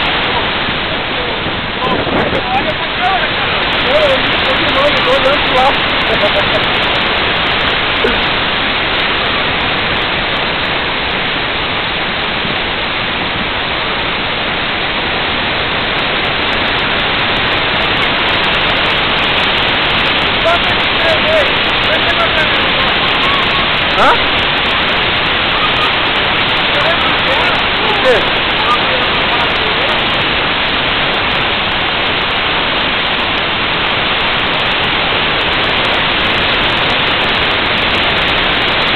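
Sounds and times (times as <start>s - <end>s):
waterfall pouring: 0.0s - 38.9s.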